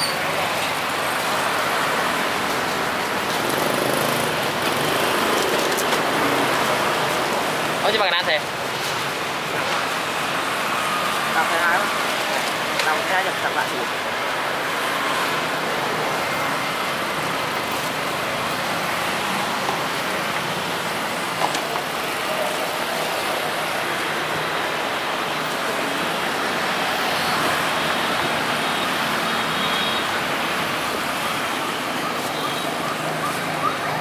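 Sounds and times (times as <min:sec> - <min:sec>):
street traffic hum: 0:00.0 - 0:34.0.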